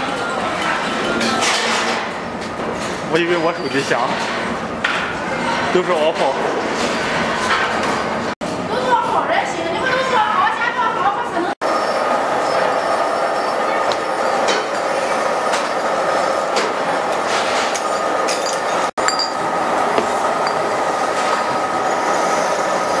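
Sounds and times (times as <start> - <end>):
conveyor machinery noise: 0.0 - 23.0.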